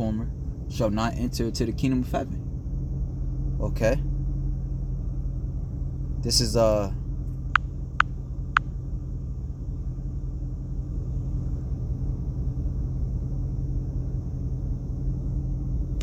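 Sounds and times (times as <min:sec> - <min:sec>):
low rumble and hum: 0:00.0 - 0:16.0.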